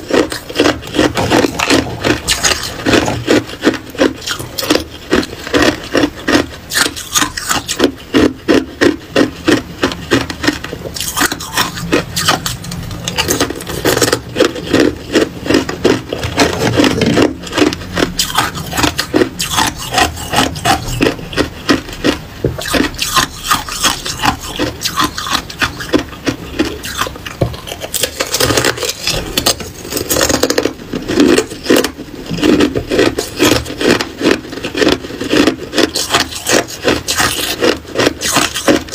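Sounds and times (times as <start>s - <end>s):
ice being chewed crunching: 0.0s - 38.9s.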